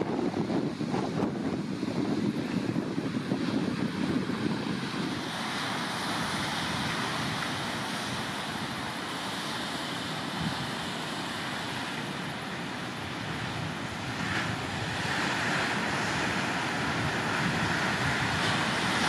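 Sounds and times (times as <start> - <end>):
ocean surf breaking on boulders: 0.0 - 19.0.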